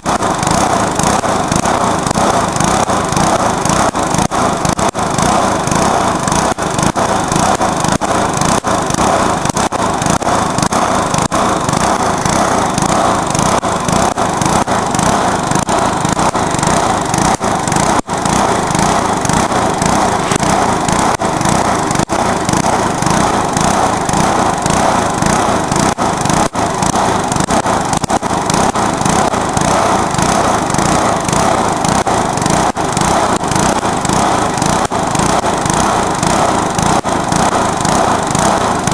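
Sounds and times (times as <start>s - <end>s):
loud lawnmower engine running: 0.0s - 38.9s.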